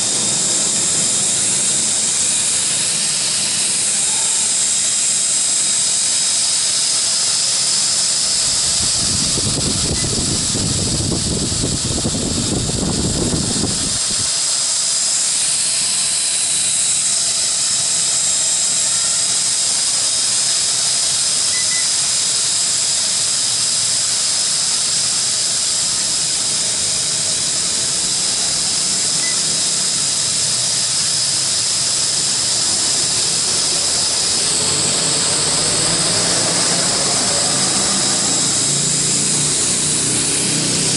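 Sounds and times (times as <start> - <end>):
quadcopter motors whining: 0.0 - 40.9.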